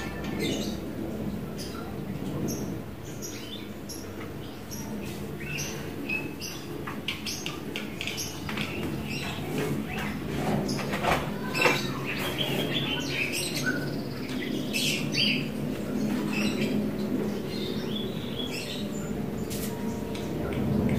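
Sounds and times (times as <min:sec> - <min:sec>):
low background hum: 0:00.0 - 0:20.9.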